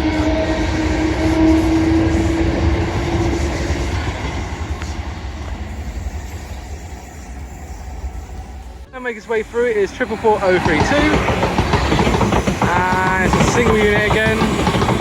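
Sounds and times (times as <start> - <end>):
electric train pulling away: 0.0 - 15.0.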